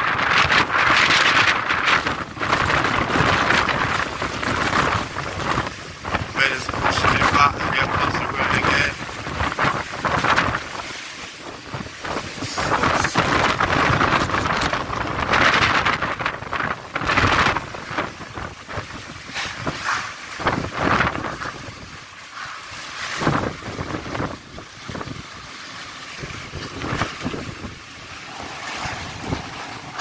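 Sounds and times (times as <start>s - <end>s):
wind gusting on microphone: 0.0s - 25.5s, 26.2s - 30.0s.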